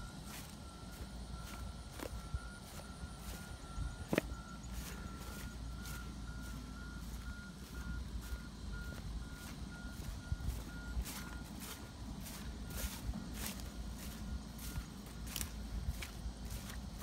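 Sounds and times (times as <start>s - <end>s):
faint high beeps: 0.0s - 17.0s
footsteps swishing through grass: 0.1s - 17.0s.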